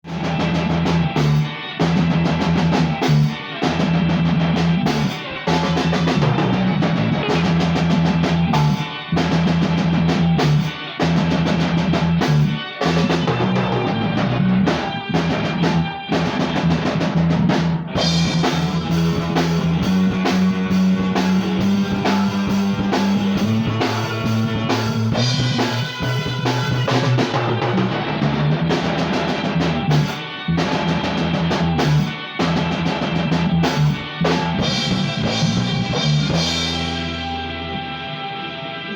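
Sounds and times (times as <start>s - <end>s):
drum kit playing: 0.0s - 38.0s
electric guitar: 0.0s - 38.9s
low bass line: 0.2s - 38.1s.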